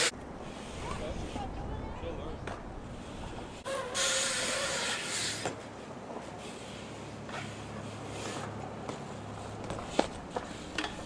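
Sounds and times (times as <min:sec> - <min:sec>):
bike tyres rolling on concrete: 0:00.0 - 0:11.0.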